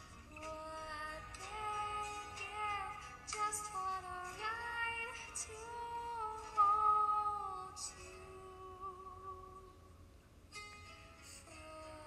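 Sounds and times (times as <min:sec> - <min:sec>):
high singing voice over music: 0:00.0 - 0:09.8.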